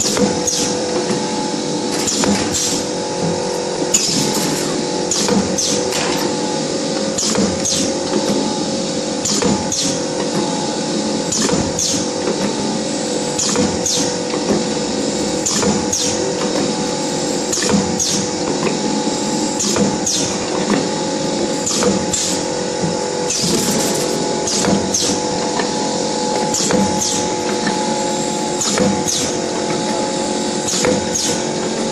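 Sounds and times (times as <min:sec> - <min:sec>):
machine motor hum: 0:00.0 - 0:31.9.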